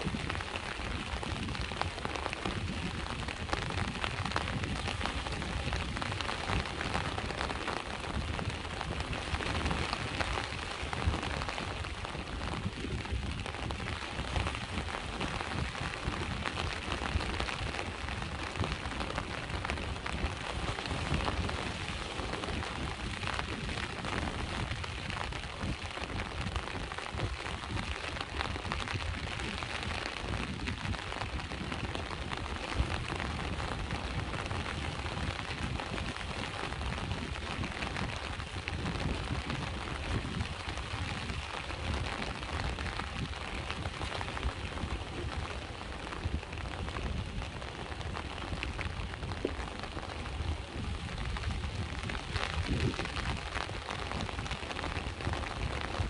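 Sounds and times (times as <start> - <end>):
rain falling: 0.0 - 56.0
sea waves rumbling: 0.0 - 56.0.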